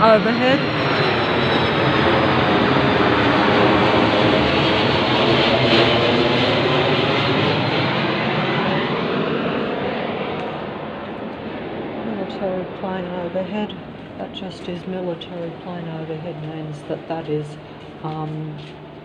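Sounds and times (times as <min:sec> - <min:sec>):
airplane passing low overhead: 0:00.0 - 0:19.0.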